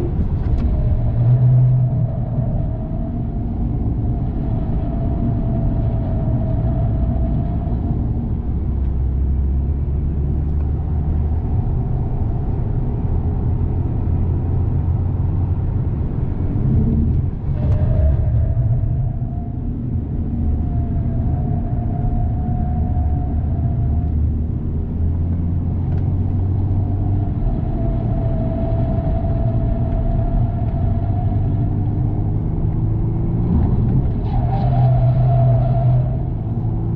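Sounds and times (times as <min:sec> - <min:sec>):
steady low rumble: 0:00.0 - 0:36.9.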